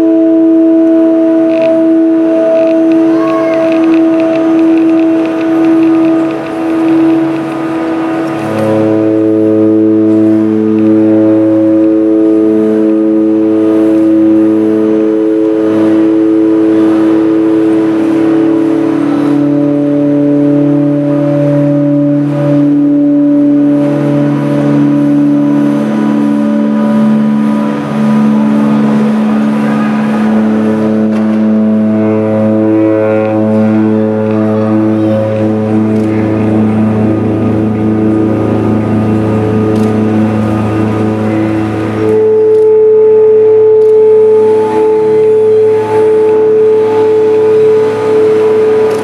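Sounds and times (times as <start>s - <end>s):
amplified drone music: 0.0s - 49.0s.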